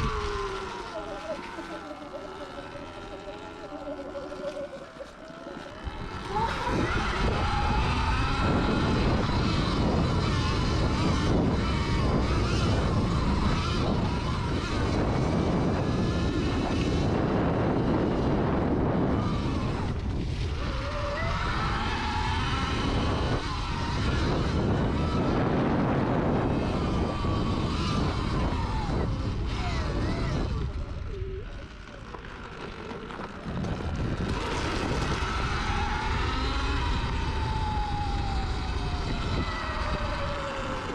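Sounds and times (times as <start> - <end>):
electric motorbike motor whining: 0.0 - 40.9
low rumble of riding noise: 0.0 - 40.9.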